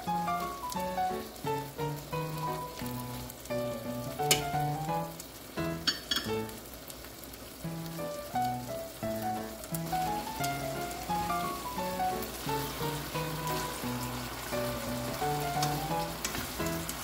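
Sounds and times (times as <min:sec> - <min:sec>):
chicken sizzling in a skillet: 0:00.0 - 0:17.0.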